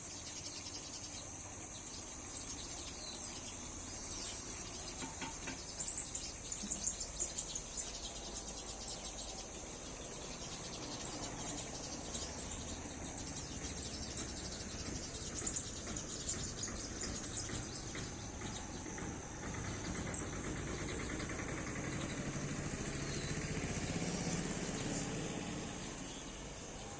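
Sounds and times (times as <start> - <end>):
bird chirps: 0.0 - 26.9
insects chirring: 0.0 - 26.9.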